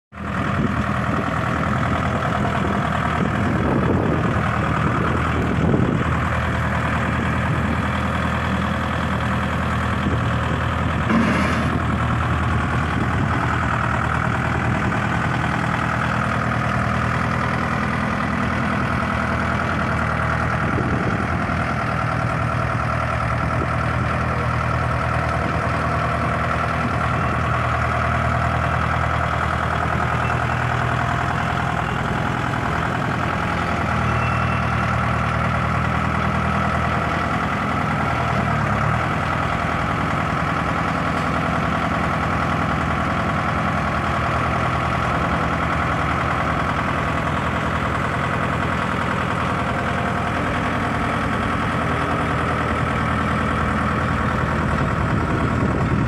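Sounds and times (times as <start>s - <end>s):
tractor diesel engine running: 0.1s - 56.0s.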